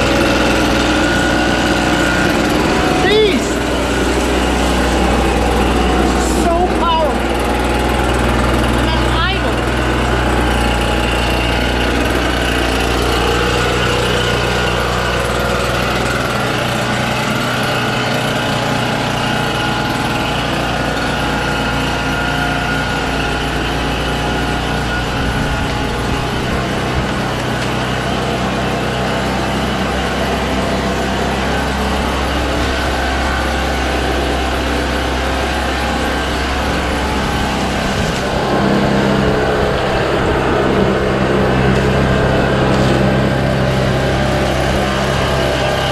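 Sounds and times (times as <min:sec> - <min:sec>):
leaf blower engine running: 0:00.0 - 0:45.9.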